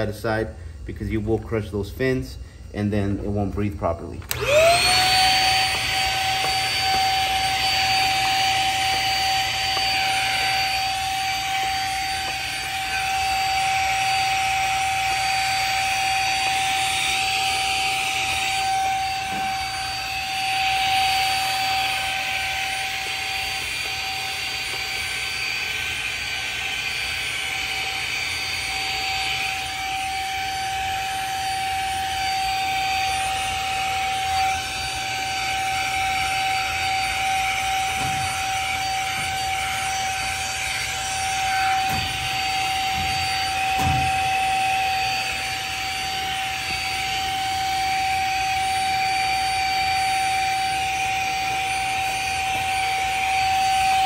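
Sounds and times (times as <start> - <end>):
vacuum cleaner motor whine: 0.0 - 54.0
vacuum sucking air and dust: 4.2 - 54.0.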